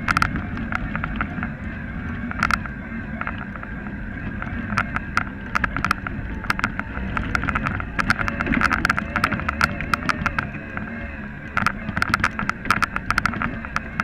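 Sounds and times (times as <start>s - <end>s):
bicycle tyres on gravel: 0.0s - 14.0s
bike rattling clicks: 0.0s - 14.0s
wind on microphone: 0.0s - 14.0s.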